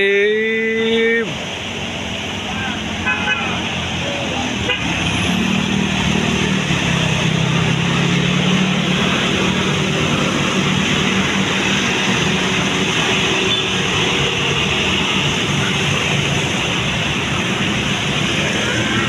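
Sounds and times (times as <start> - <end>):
road and tyre noise: 0.0 - 19.0
bus engine running: 1.2 - 19.0.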